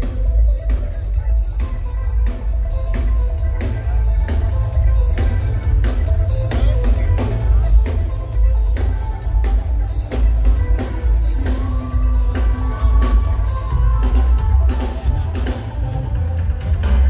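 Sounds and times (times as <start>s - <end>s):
heavy bass line: 0.0s - 17.0s
live reggae band playing: 0.0s - 17.0s.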